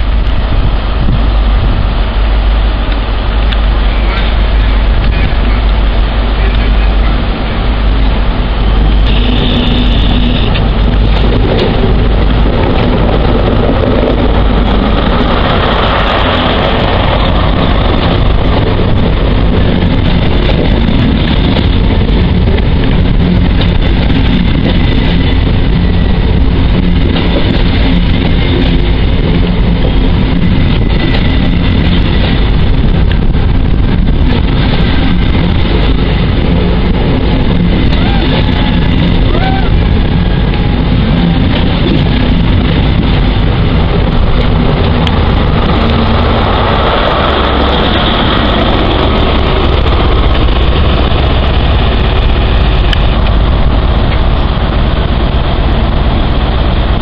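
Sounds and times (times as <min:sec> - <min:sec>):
diesel train engine passing: 0:00.0 - 0:57.0
train coaches rolling on rails: 0:00.0 - 0:57.0.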